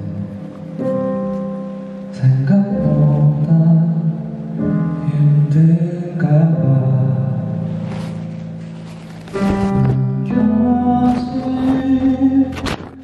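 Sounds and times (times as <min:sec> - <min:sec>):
live slow ballad music: 0:00.0 - 0:13.0.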